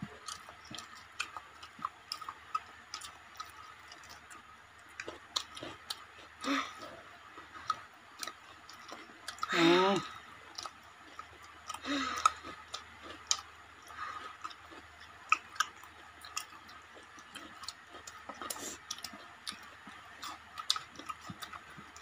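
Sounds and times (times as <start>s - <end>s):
mouths chewing: 0.0s - 22.0s.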